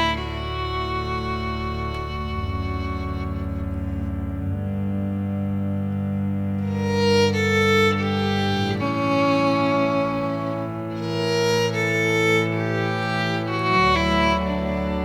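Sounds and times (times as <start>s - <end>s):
low string bass: 0.0s - 15.0s
violin slow sustained notes: 0.0s - 15.0s.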